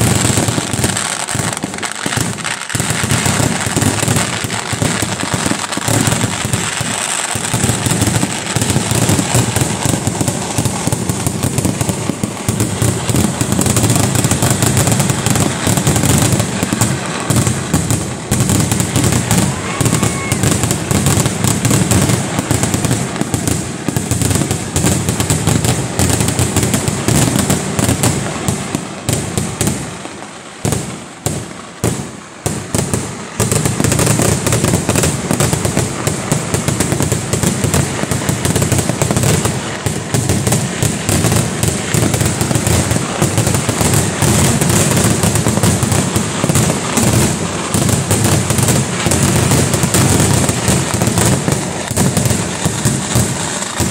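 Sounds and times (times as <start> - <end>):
barrage of firecrackers: 0.0 - 53.9.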